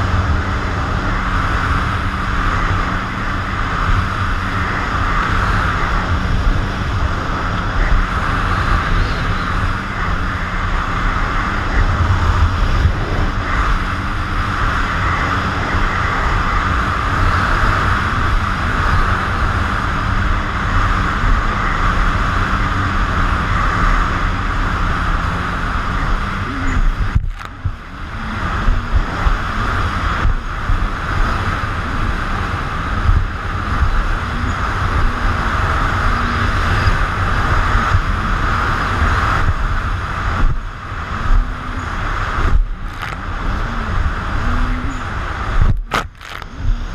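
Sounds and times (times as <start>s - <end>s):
watercraft engine running: 0.0s - 46.9s
wind buffeting microphone: 0.0s - 46.9s.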